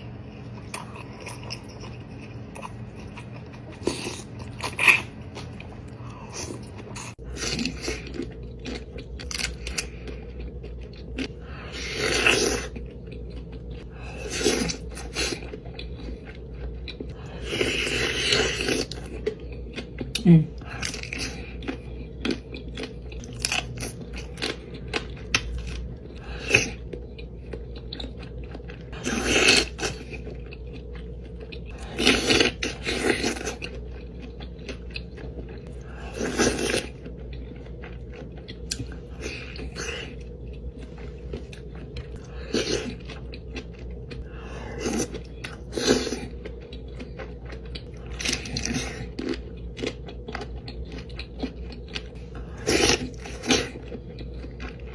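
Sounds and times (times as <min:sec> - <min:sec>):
person chewing: 0:00.0 - 0:54.9
steady low hum: 0:00.0 - 0:54.9.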